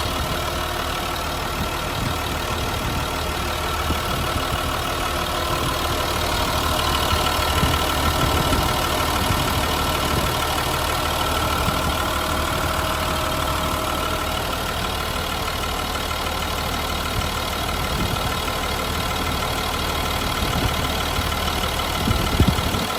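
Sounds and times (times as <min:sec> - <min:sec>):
truck engine idling: 0:00.0 - 0:22.9.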